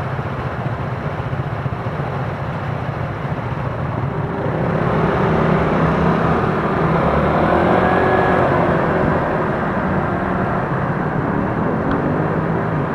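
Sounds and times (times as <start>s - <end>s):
road and wind rumble: 0.0s - 12.9s.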